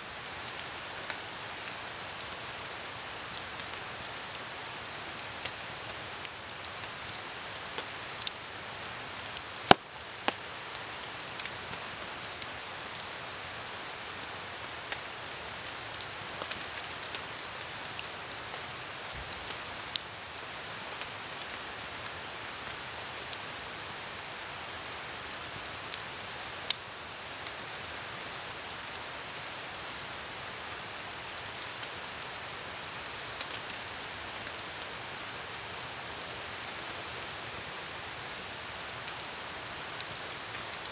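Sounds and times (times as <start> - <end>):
rain falling: 0.0 - 40.9
campfire crackling: 0.1 - 40.9.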